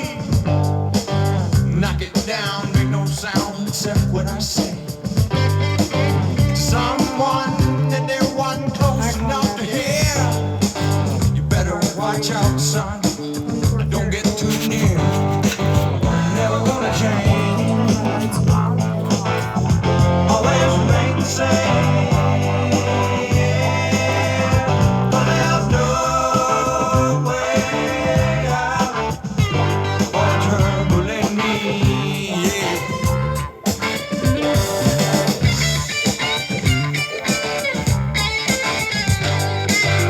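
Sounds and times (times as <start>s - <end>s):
guitar rock song with bass: 0.0s - 40.0s.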